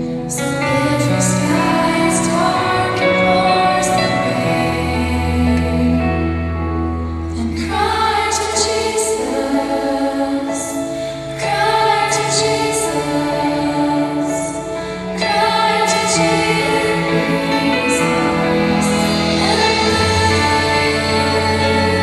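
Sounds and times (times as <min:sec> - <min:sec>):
children's choir singing: 0:00.0 - 0:06.5, 0:07.4 - 0:22.0
instrumental accompaniment: 0:00.0 - 0:22.0.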